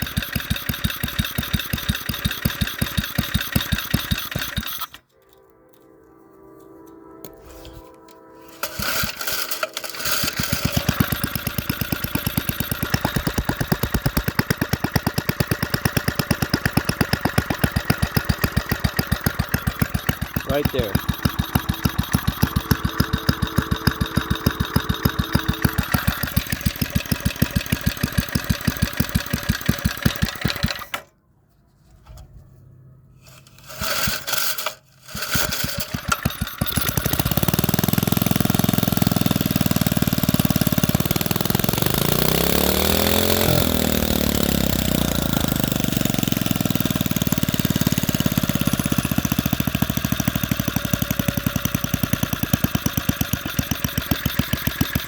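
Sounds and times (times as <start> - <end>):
single-cylinder engine idling: 0.0 - 5.0, 9.0 - 31.0, 35.7 - 55.0.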